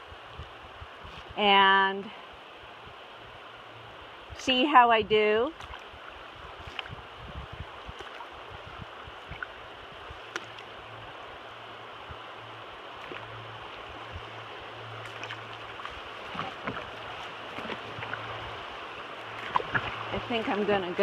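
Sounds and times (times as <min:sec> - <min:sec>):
river water over rapids: 0:00.0 - 0:21.0.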